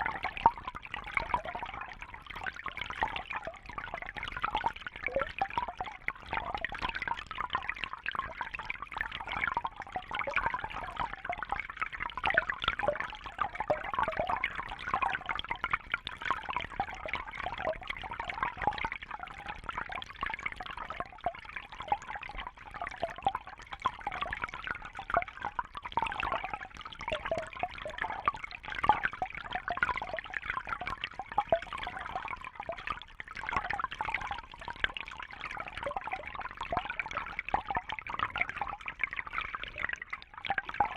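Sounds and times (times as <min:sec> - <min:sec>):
water trickling and bubbling: 0:00.0 - 0:40.9.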